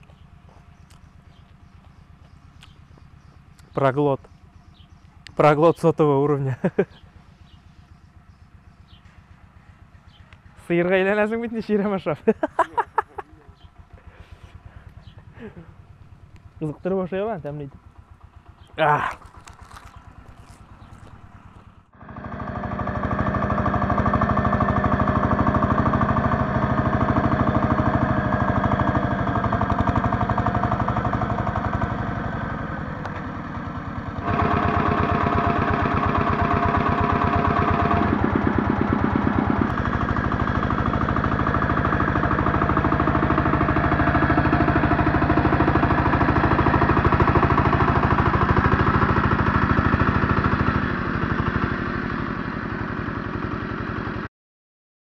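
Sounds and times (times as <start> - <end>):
small tractor engine running: 0.0 - 54.3.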